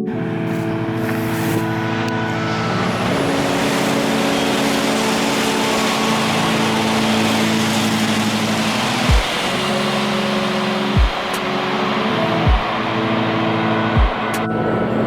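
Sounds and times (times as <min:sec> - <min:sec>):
background music with pulsing beat: 0:00.0 - 0:15.0
train rushing past: 0:00.2 - 0:15.0.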